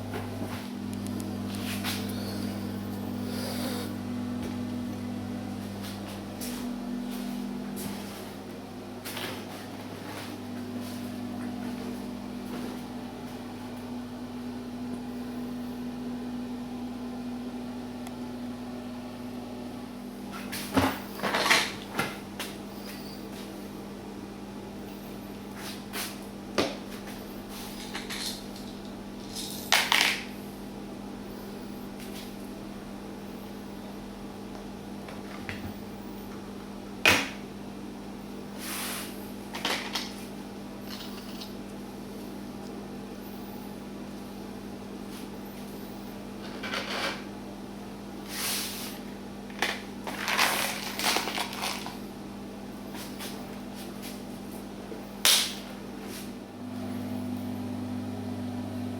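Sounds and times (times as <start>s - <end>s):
steady machine hum: 0.0s - 58.9s.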